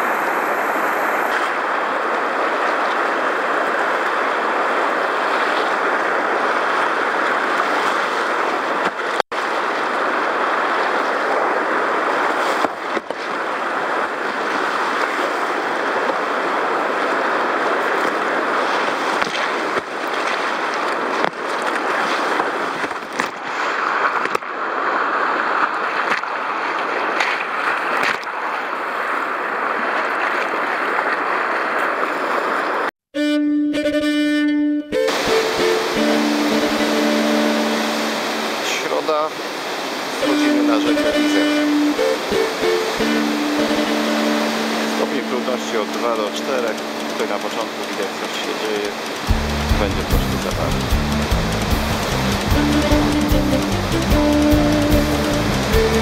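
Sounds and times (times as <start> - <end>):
whitewater rapids rushing: 0.0 - 32.9, 35.0 - 56.0.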